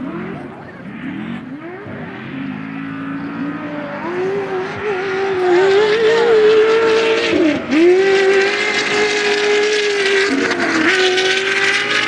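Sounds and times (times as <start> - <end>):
race vehicle engine running hard: 0.0 - 12.0.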